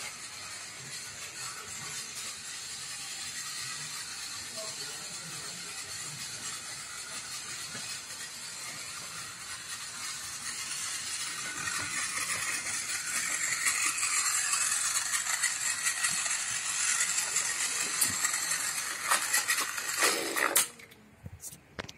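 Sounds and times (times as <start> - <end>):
wheels rattling over track joints: 0.0 - 20.9
toy train motor whirring: 0.0 - 21.0.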